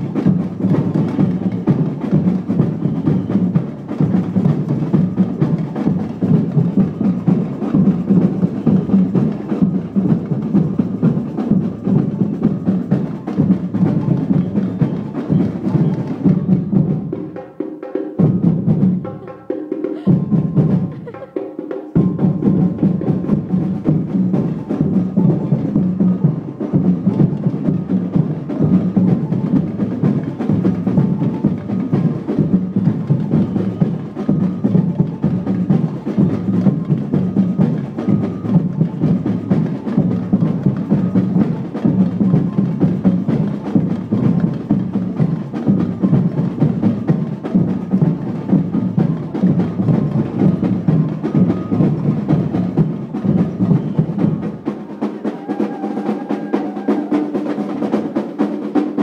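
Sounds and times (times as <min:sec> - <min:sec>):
steel drums played fast: 0:00.0 - 0:59.0.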